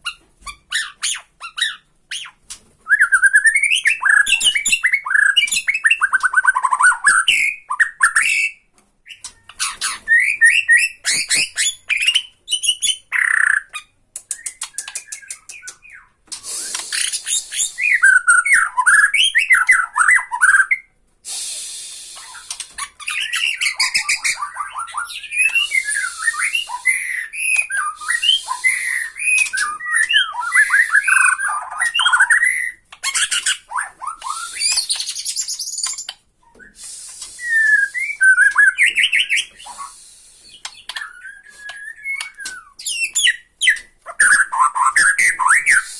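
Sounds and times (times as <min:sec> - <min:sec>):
songbird singing whistled phrases: 0:01.6 - 0:20.9, 0:21.6 - 0:45.9.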